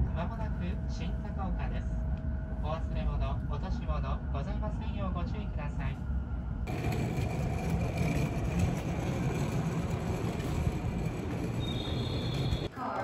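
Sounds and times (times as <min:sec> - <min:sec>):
low rumble: 0:00.0 - 0:12.7.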